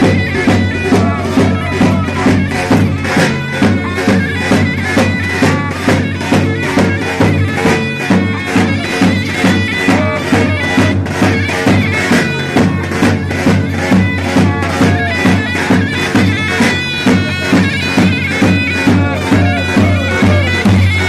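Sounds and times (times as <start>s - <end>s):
drum beat: 0.0s - 21.0s
shrill reed wind instrument: 0.0s - 21.0s.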